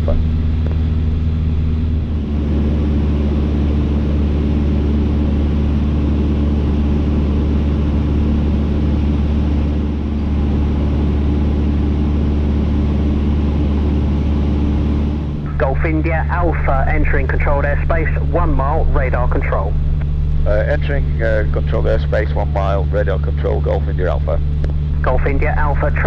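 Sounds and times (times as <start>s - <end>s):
airplane engine droning: 0.0s - 26.0s.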